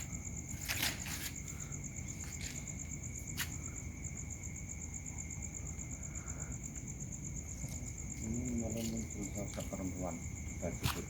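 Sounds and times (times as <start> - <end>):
crickets trilling: 0.0 - 11.0
low insect tone: 0.0 - 11.0.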